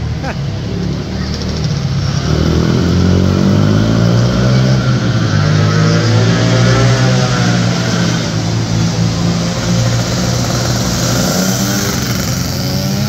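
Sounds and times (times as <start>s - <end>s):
quad engines revving: 0.0s - 13.0s.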